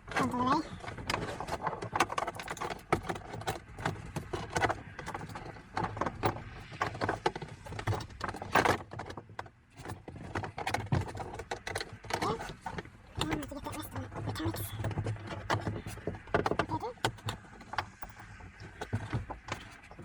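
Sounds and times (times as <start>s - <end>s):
seat-belt hardware clicking: 0.9s - 20.0s.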